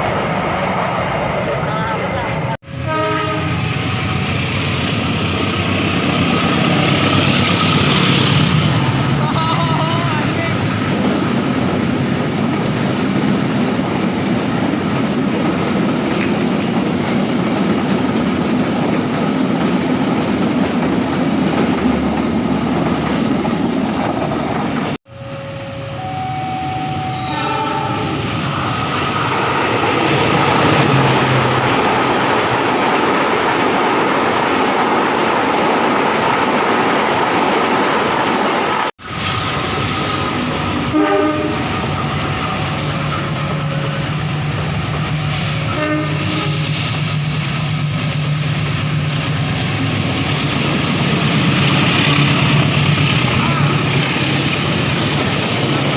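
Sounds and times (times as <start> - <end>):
train wheels rumbling on rails: 0.0 - 25.0, 26.9 - 55.9.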